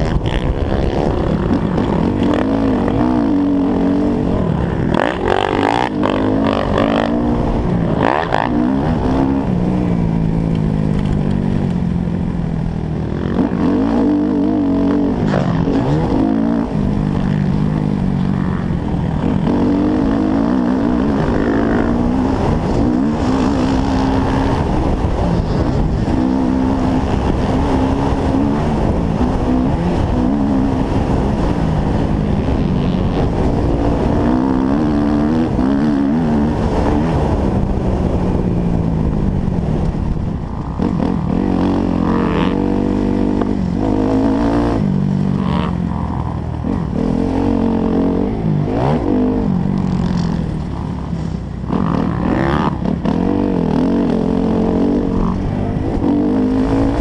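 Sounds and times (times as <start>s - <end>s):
dirt bike engine revving: 0.0s - 38.4s, 39.6s - 57.0s
wind noise on microphone: 0.0s - 57.0s.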